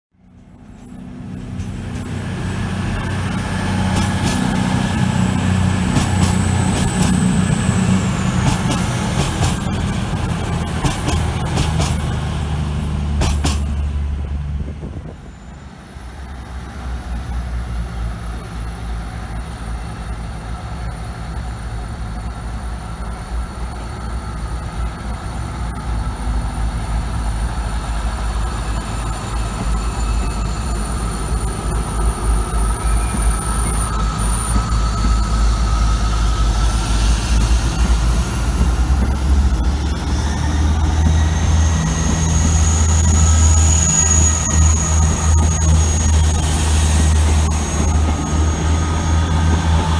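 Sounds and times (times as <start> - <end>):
train diesel rumble: 0.2 - 49.9
train engine whine: 0.2 - 49.9.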